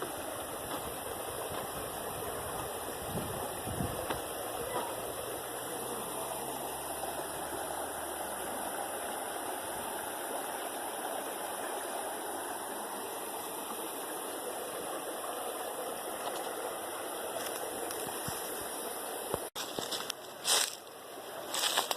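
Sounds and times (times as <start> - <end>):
stream water rushing: 0.0 - 19.6.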